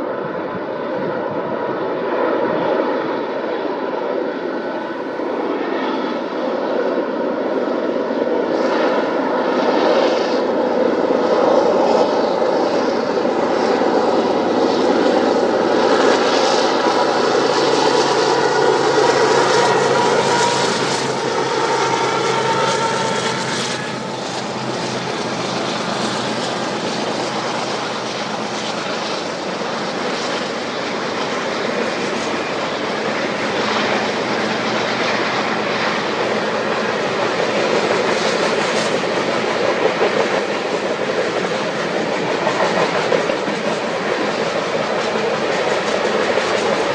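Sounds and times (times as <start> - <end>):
diesel locomotive engine drone: 0.0 - 46.9.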